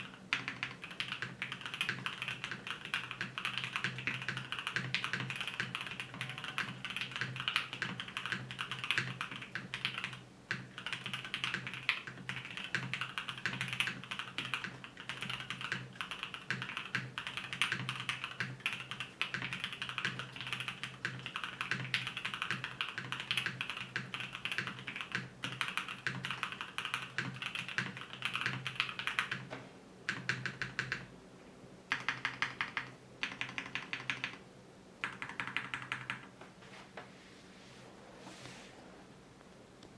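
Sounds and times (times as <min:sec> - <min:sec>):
typing on mechanical keyboard: 0:00.0 - 0:29.5, 0:30.1 - 0:31.1, 0:31.9 - 0:34.4, 0:35.0 - 0:36.3.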